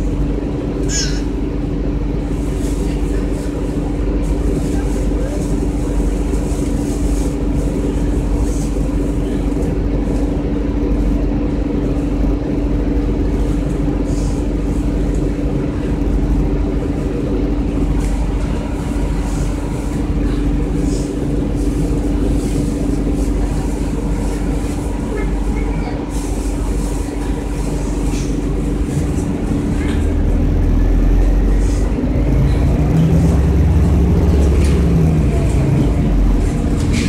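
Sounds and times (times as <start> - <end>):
bus engine droning: 0.0 - 37.0.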